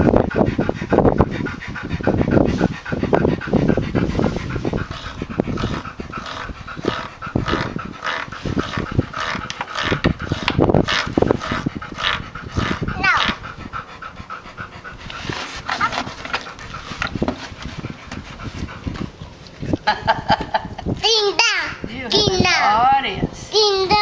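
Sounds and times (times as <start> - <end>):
dog panting: 0.0 - 22.7.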